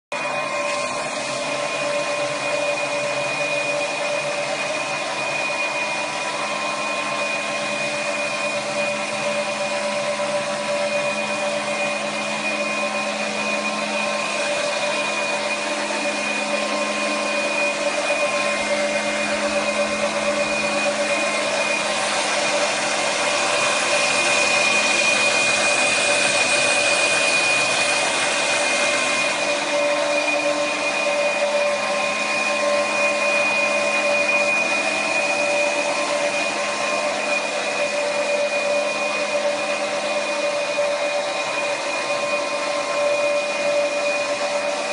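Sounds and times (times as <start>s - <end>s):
machine whining tones: 0.1s - 44.9s
sorting machine whirring: 0.2s - 44.9s.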